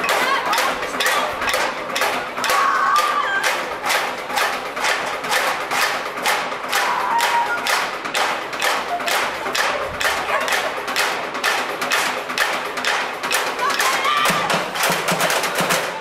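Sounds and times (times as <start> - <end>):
steady percussive beat: 0.0 - 16.0.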